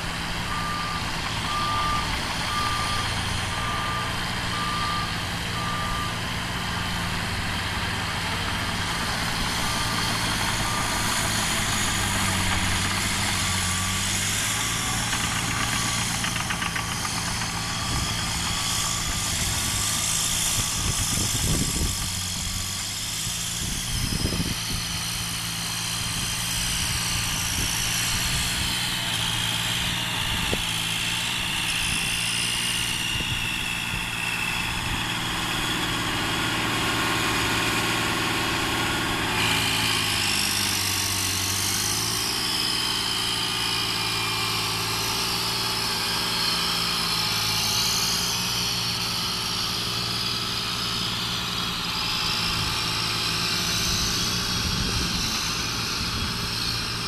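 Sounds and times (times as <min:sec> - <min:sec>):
diesel engines running under load: 0:00.0 - 0:57.0.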